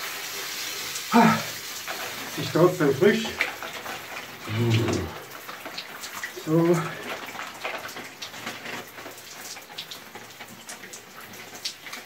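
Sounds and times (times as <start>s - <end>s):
shower water splashing: 0.0s - 12.0s.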